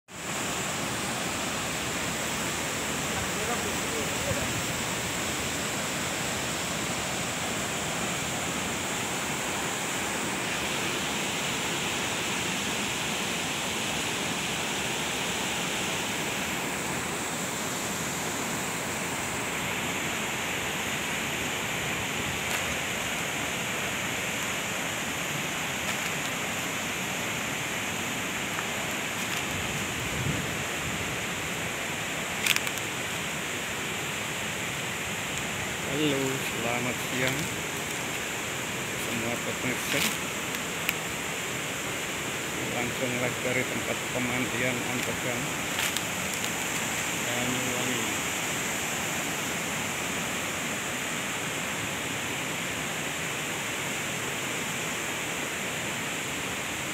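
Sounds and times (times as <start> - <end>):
water flowing: 0.1 - 56.9.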